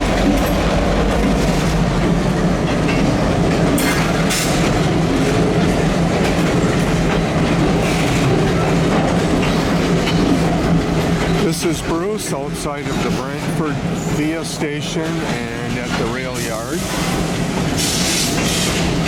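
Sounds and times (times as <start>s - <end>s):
diesel locomotive engines running: 0.0s - 19.0s.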